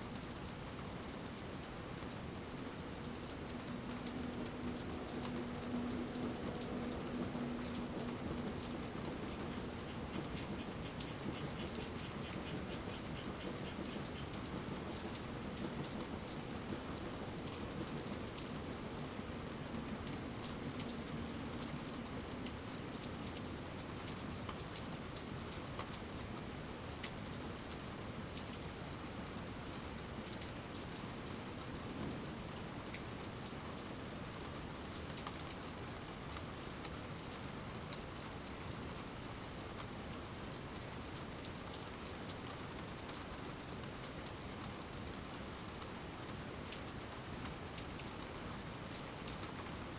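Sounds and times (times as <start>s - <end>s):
raindrops ticking on surfaces: 0.0s - 49.9s
steady rain falling: 0.0s - 49.9s.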